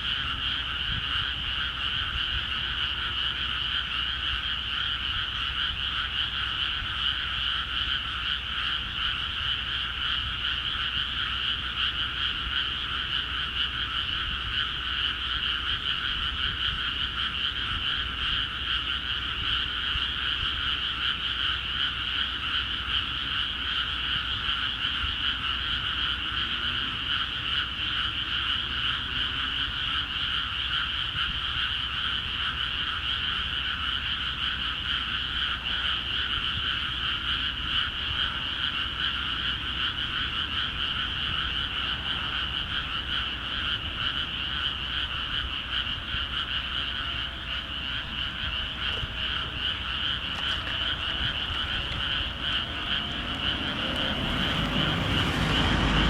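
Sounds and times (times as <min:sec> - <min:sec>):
frogs croaking in chorus: 0:00.0 - 0:56.0.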